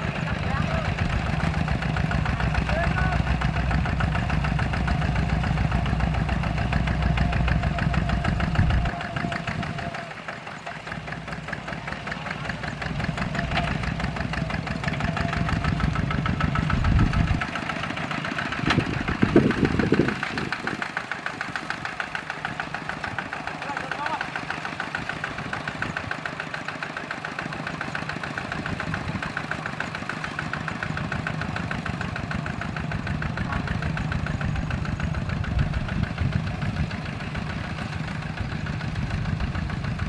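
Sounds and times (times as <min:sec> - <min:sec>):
diesel tractor engine chugging: 0:00.0 - 0:40.0.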